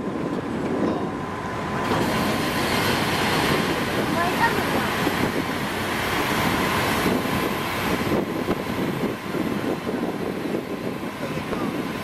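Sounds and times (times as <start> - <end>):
ship engine drone: 0.0 - 12.0
water: 0.0 - 12.0
wind buffeting microphone: 0.0 - 12.0.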